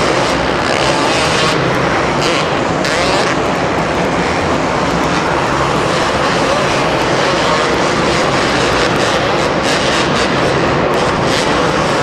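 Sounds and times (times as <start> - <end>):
motorcycle engines revving high: 0.0 - 12.0.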